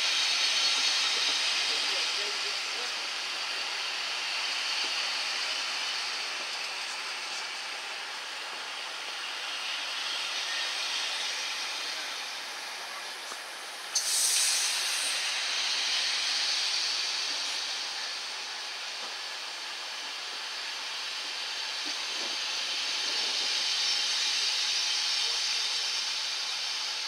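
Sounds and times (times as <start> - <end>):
burst of hiss: 0.0 - 27.0
train coaches rolling on rails: 0.0 - 27.0.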